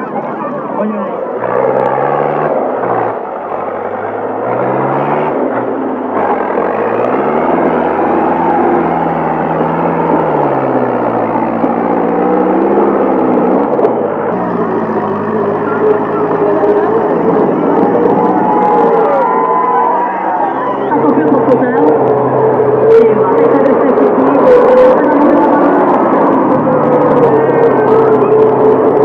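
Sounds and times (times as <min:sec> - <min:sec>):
tractor engine working hard: 0:00.0 - 0:29.0.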